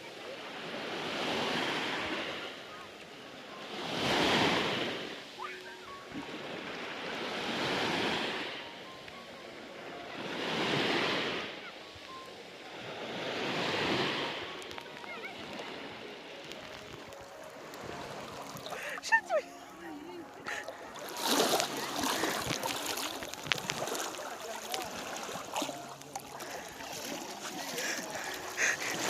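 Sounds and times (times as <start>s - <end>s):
sea waves breaking on beach: 0.0s - 29.0s.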